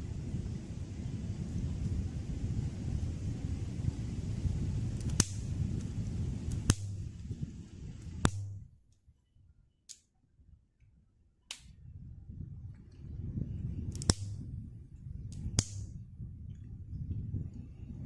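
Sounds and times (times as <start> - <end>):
low fire rumble: 0.0 - 8.8, 11.8 - 18.0.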